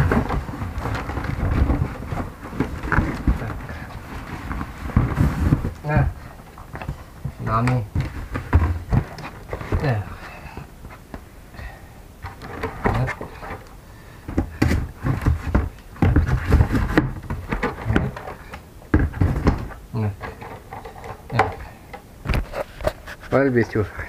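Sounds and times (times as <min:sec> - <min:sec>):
cardboard scraping and knocking: 0:00.0 - 0:11.1, 0:14.3 - 0:23.4.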